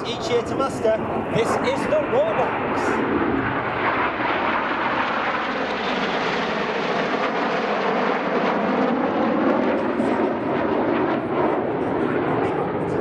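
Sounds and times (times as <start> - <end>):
jet aircraft flying overhead: 0.0 - 13.0.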